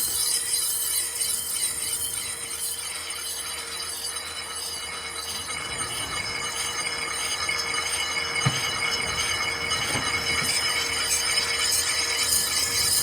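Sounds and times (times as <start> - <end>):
power tool grinding steel: 0.0 - 13.0.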